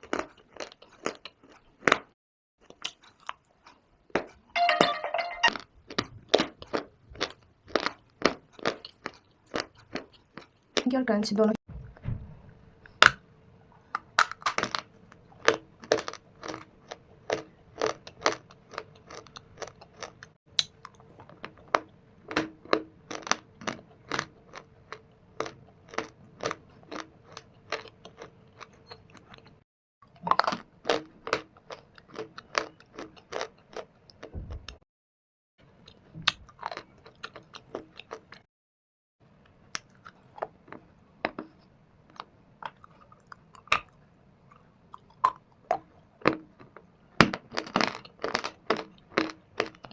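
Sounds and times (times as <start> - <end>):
crisp chewing crunches: 0.0 - 4.4, 5.8 - 10.9, 13.9 - 34.8, 35.8 - 38.5, 39.7 - 49.9.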